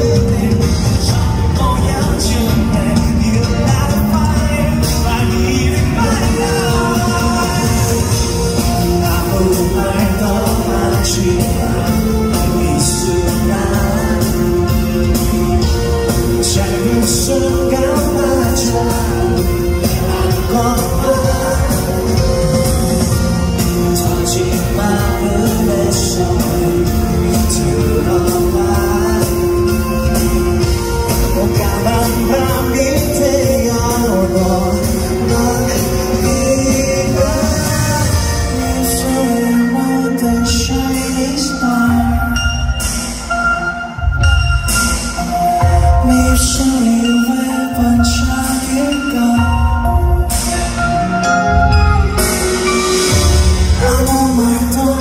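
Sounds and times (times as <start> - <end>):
man singing into a microphone: 0.0 - 43.2, 44.2 - 51.4, 52.6 - 55.0
live rock band music: 0.0 - 55.0.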